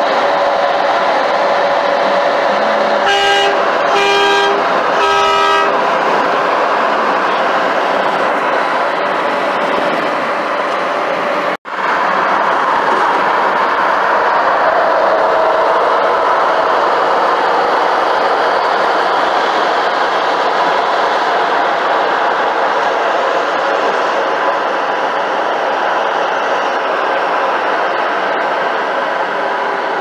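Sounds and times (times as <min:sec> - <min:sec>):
highway road and wind noise: 0:00.0 - 0:30.0.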